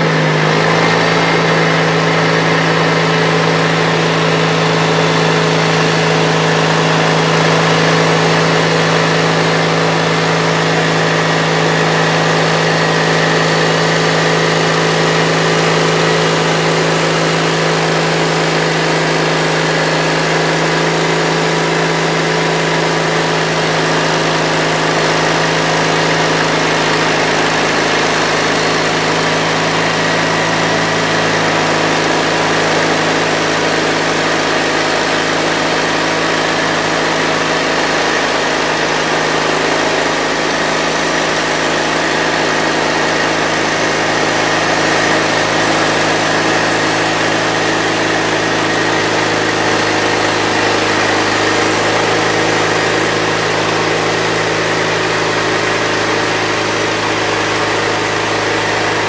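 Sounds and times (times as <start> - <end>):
sawmill gas engine running: 0.0 - 59.0.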